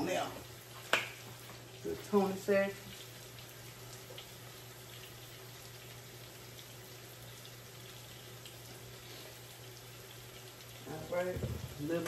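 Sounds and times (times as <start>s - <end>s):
green beans sizzling in fat: 0.0s - 12.0s.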